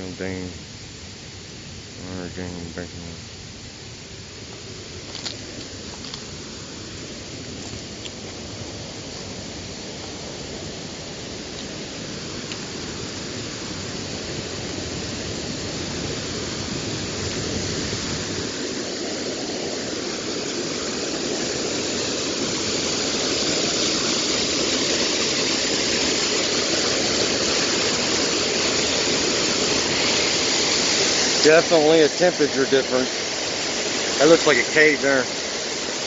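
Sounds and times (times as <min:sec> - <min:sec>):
water rushing over a dam: 0:04.1 - 0:36.0.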